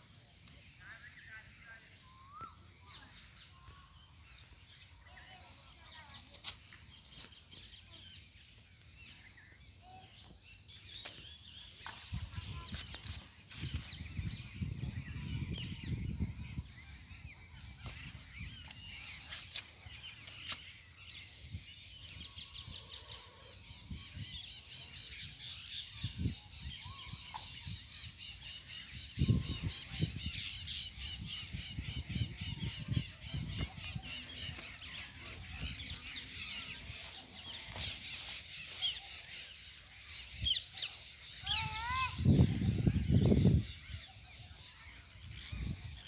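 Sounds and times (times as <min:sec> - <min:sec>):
birds calling and chirping: 0:00.0 - 0:46.0.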